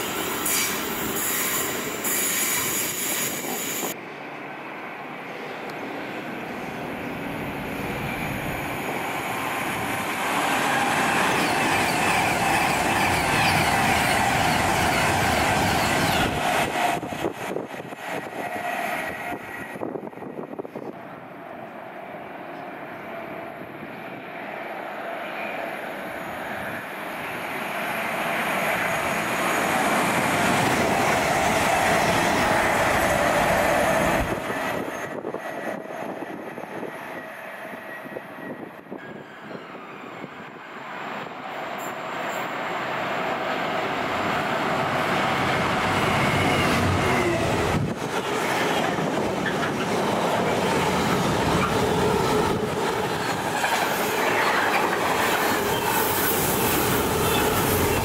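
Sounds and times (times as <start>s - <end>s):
train passing: 0.0s - 58.0s.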